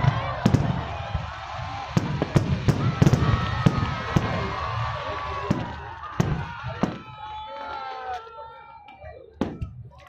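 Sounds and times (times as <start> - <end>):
fireworks bursting bangs: 0.0 - 7.5, 9.4 - 10.0.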